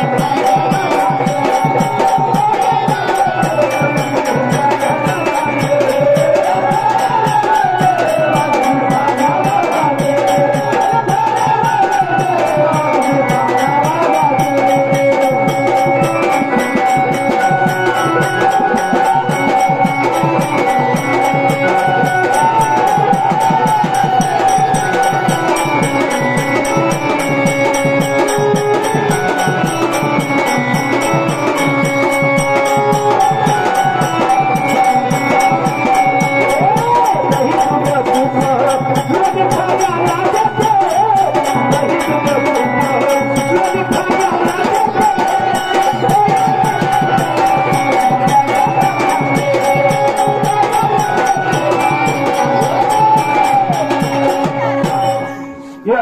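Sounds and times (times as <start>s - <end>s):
fast percussion beat: 0.0s - 56.0s
wavering melody: 0.0s - 56.0s.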